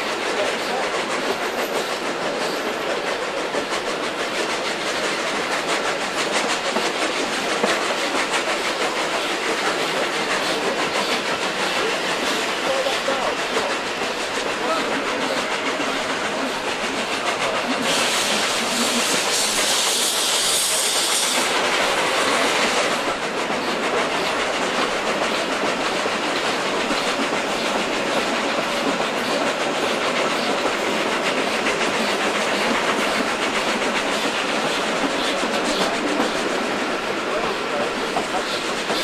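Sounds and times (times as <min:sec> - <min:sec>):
loud steam hiss: 0:00.0 - 0:39.0
train wheel clatter and rumble: 0:00.0 - 0:39.0.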